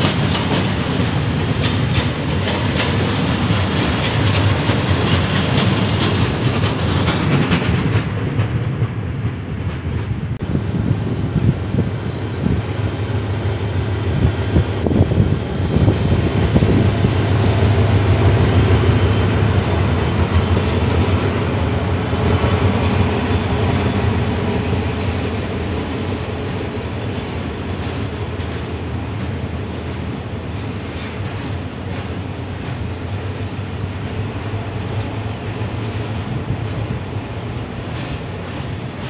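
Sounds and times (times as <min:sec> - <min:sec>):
diesel locomotive engine: 0:00.0 - 0:39.0
freight wagons rumbling: 0:00.0 - 0:39.0.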